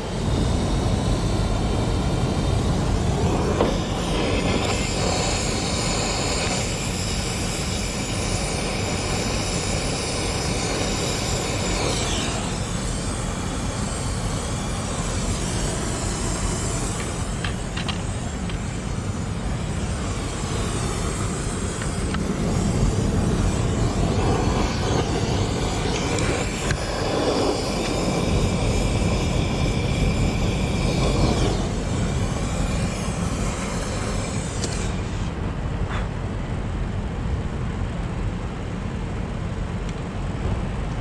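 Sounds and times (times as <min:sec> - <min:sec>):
high electronic whine: 0:00.0 - 0:35.8
air conditioner rumbling: 0:00.0 - 0:41.0.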